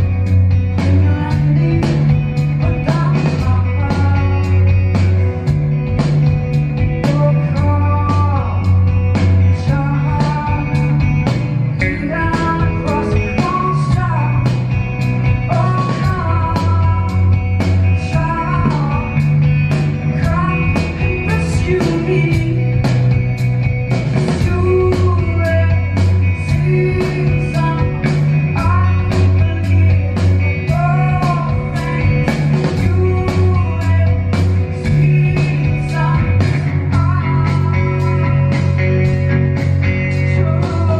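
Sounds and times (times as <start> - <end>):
electric guitar: 0.0 - 40.9
steady drumbeat: 0.0 - 40.9
woman singing: 0.7 - 5.2, 6.8 - 11.2, 11.8 - 23.1, 24.3 - 39.2, 40.1 - 40.9.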